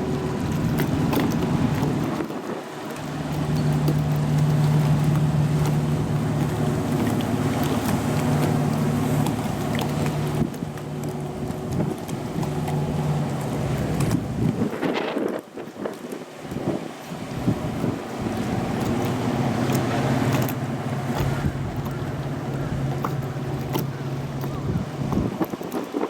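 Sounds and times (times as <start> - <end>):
ferry engine low hum: 0.0 - 14.7, 17.2 - 25.6
wind noise on microphone: 0.0 - 26.0.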